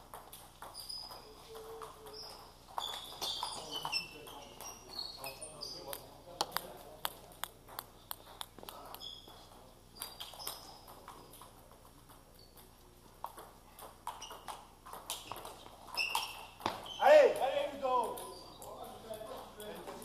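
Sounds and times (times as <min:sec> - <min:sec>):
table tennis balls pinging: 0:00.0 - 0:20.0.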